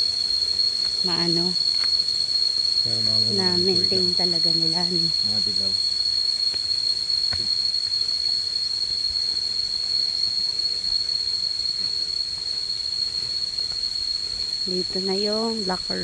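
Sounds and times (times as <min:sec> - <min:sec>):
background hiss: 0:00.0 - 0:16.0
high-pitched insect drone: 0:00.0 - 0:16.0.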